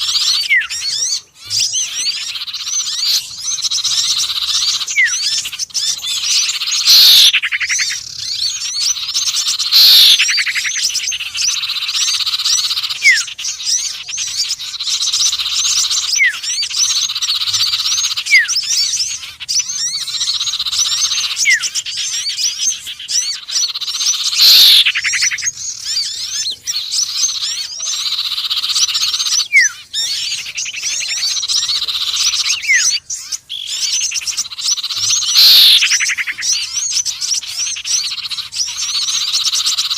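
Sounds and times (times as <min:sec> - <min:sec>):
downward-sweeping bird calls: 0:00.0 - 0:39.9
songbirds chirping and trilling: 0:00.0 - 0:39.9.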